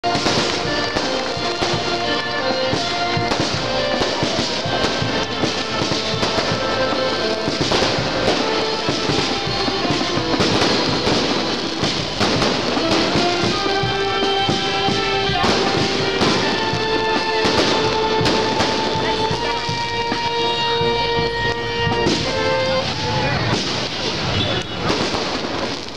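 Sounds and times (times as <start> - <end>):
music with held notes: 0.0 - 25.4
fireworks crackling and popping: 0.0 - 25.9.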